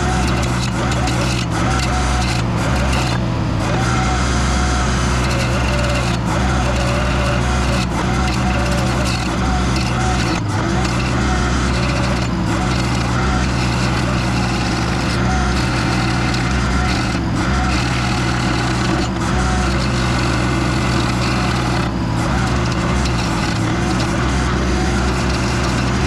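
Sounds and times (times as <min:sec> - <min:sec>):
engine running under load: 0:00.0 - 0:26.0
stump grinder grinding wood: 0:00.0 - 0:26.0.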